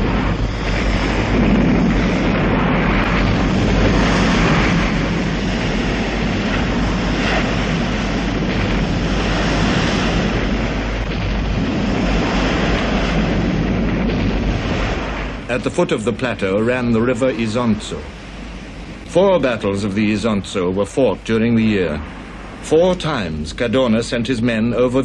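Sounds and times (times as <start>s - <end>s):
artillery bombardment rumble: 0.0s - 25.0s.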